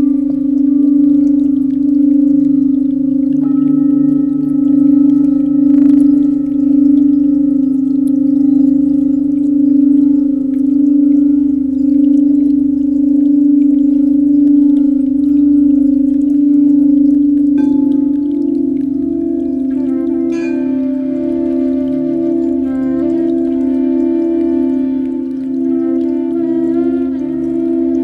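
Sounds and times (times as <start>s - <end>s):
higher singing bowl tone: 0.0s - 28.0s
singing bowl tone: 0.0s - 28.0s.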